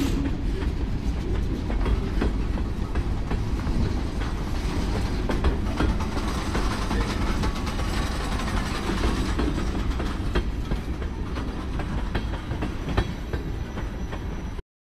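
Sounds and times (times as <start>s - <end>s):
low train rumble: 0.0s - 14.6s
train wheels clicking over rail joints: 0.0s - 14.6s.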